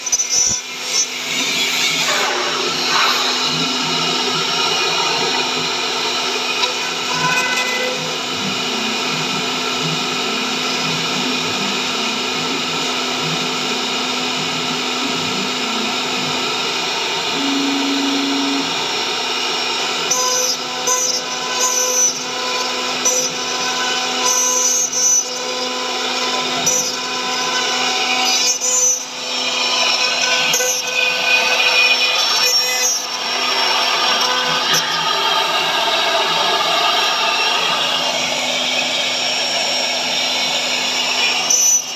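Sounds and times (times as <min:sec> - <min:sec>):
router spindle whine: 0:00.0 - 0:41.9.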